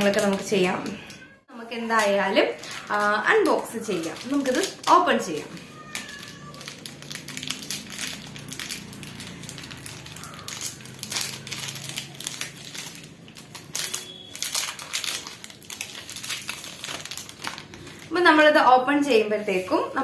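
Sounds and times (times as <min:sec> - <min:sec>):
plastic wrapper crinkling: 0:00.0 - 0:20.0.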